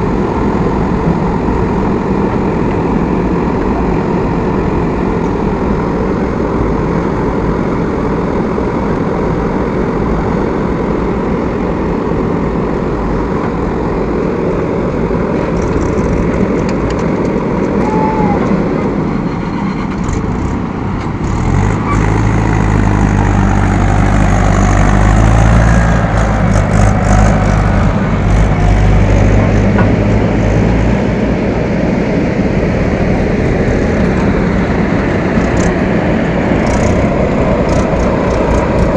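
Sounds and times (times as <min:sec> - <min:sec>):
diesel engines working: 0:00.0 - 0:38.9.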